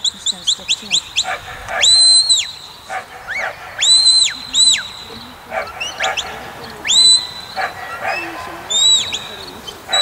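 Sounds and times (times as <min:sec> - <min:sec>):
herding whistle commands: 0:00.0 - 0:10.0.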